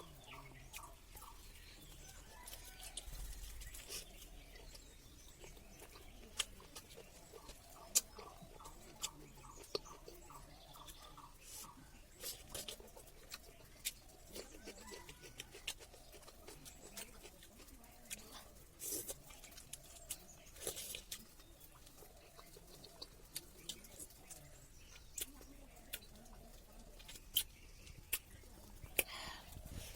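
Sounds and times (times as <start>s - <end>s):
chewing mouth clicks and smacks: 2.1s - 29.9s.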